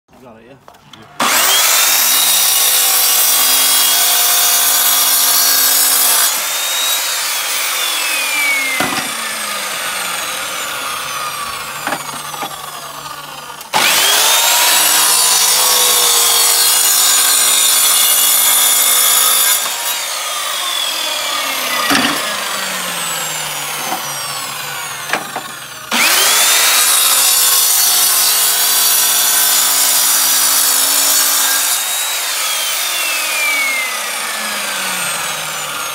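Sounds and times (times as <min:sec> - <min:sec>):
mitre saw cutting tiles: 0:01.1 - 0:35.9.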